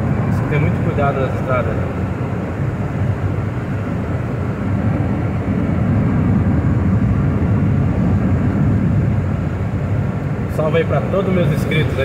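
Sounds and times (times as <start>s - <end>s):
car driving on wet highway: 0.0s - 12.0s.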